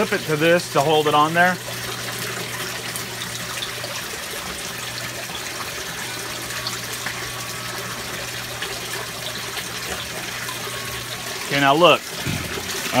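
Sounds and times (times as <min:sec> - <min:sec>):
water splashing from a pipe: 0:00.0 - 0:13.0.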